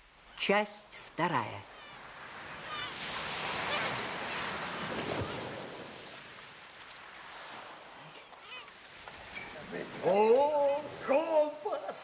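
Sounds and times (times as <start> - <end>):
wave washing on shore: 1.7 - 12.0.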